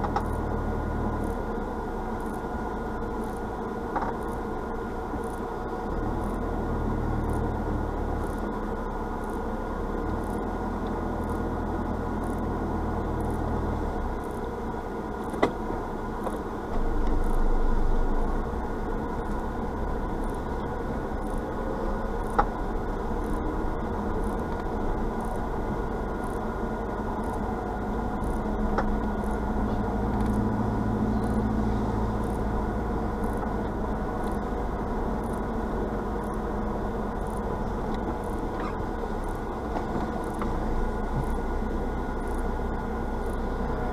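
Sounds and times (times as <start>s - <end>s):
car engine running: 0.0s - 43.9s
road noise: 0.0s - 43.9s.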